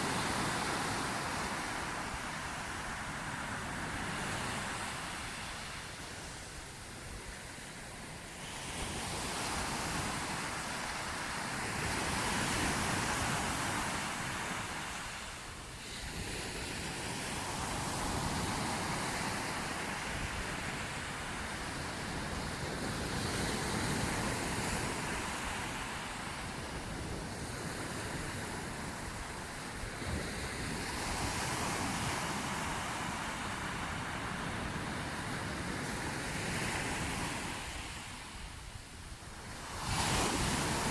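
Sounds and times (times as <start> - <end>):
sea waves breaking on shore: 0.0 - 40.9
wind on microphone: 0.0 - 40.9.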